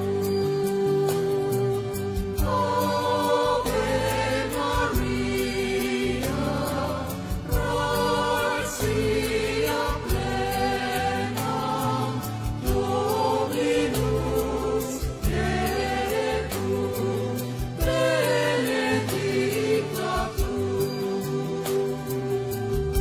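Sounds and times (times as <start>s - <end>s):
choir singing a hymn: 0.0s - 23.0s
instrumental accompaniment: 0.0s - 23.0s.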